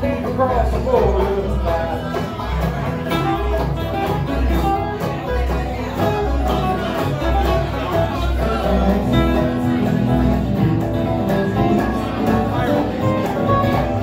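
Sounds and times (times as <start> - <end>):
acoustic guitar: 0.0 - 14.0
banjo: 0.0 - 14.0
mandolin: 0.0 - 14.0.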